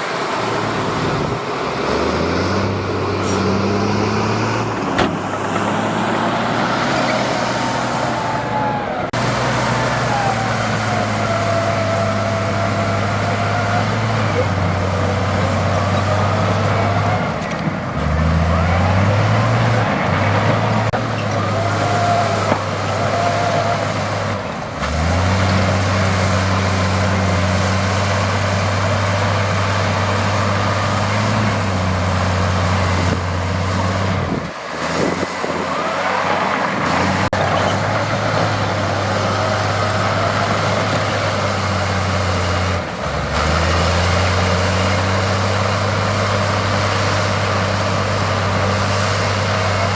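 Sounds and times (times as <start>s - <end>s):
diesel engine under load: 0.0s - 49.9s.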